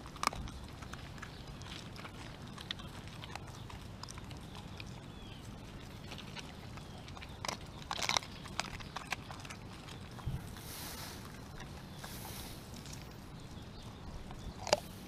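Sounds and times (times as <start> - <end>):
dog crunching bones: 0.0 - 15.0.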